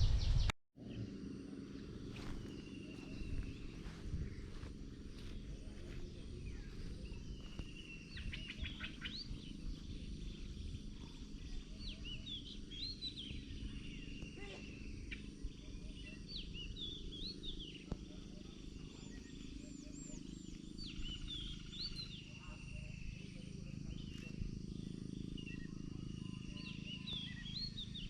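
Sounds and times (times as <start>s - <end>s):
birds chirping: 0.0s - 28.0s
low outdoor rumble: 0.0s - 28.0s.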